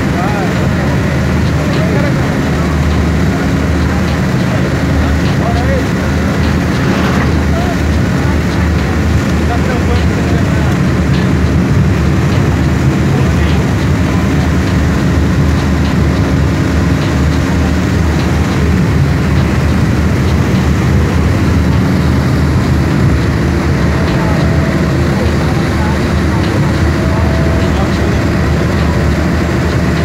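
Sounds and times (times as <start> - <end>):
propeller churned water rushing: 0.0 - 30.0
ship diesel engines droning: 0.0 - 30.0.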